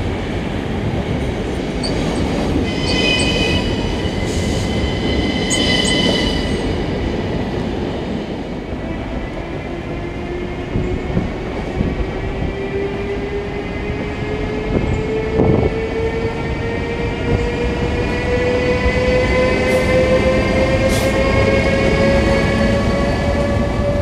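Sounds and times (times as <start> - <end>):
electric locomotive whine: 0.0 - 24.0
train wheels rumbling on rail: 0.0 - 24.0.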